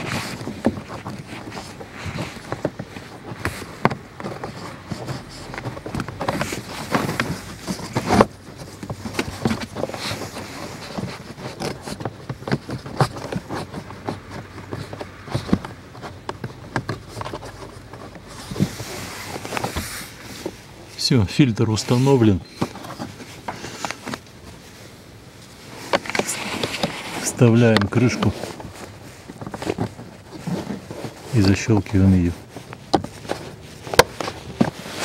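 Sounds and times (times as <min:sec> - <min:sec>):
air filter scraping in plastic housing: 0:00.0 - 0:35.0.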